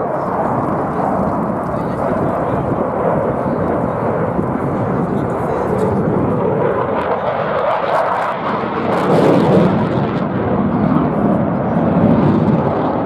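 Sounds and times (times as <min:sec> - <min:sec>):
aircraft engine rumbling: 0:00.0 - 0:13.0.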